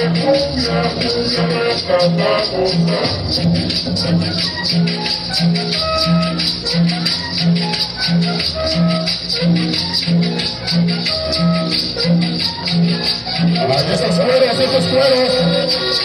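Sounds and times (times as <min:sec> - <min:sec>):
latin dance music: 0:00.0 - 0:16.0.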